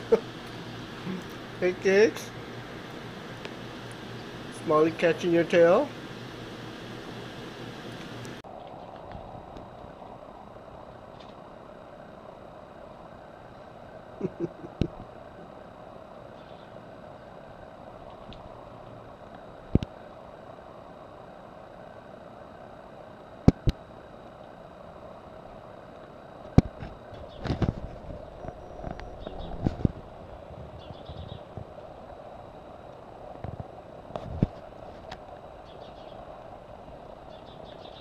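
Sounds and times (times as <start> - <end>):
background hum: 0.0 - 38.0.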